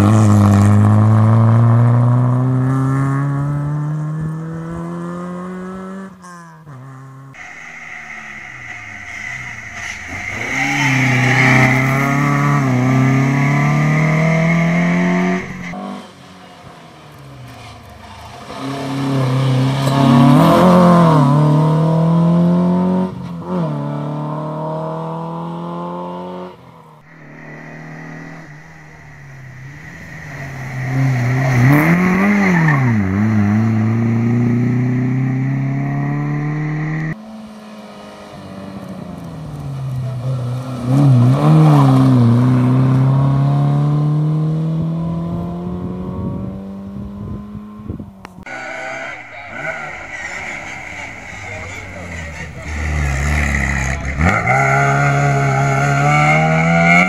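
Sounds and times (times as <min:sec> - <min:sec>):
rally car engine revving: 0:00.0 - 0:57.0
rally car passing: 0:00.0 - 0:57.0.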